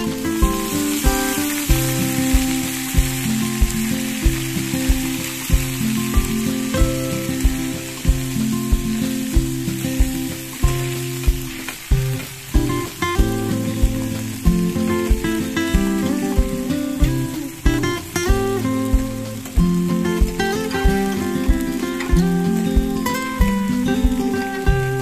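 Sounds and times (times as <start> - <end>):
acoustic guitar music: 0.0 - 25.0
food sizzling in hot oil: 0.0 - 25.0.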